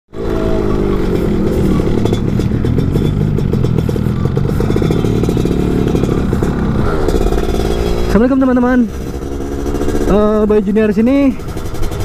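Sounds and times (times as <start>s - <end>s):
two-stroke motorcycle engine running: 0.2s - 12.0s.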